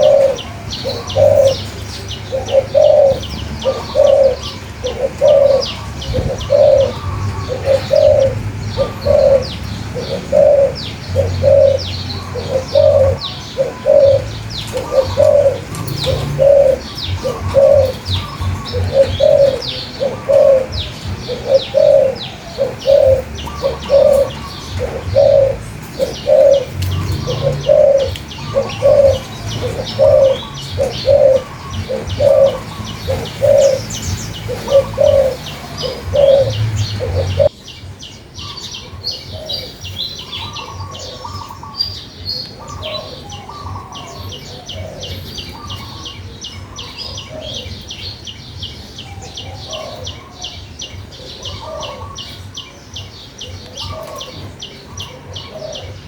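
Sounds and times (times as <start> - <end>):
dove cooing: 0.0 - 37.6, 38.4 - 56.0
small birds chirping: 0.0 - 56.0.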